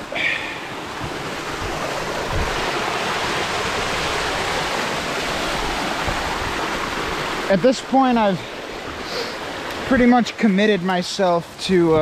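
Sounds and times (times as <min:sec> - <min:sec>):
water rushing down waterfall: 0:00.0 - 0:12.0.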